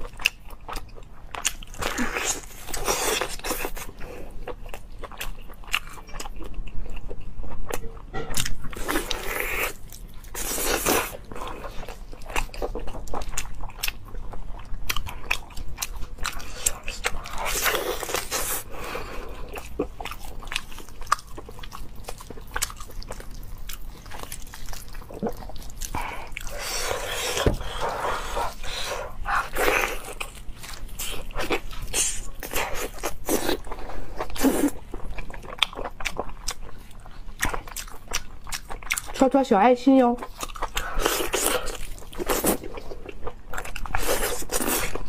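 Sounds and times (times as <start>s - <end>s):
person biting and chewing meat: 0.0s - 39.2s, 40.2s - 45.0s.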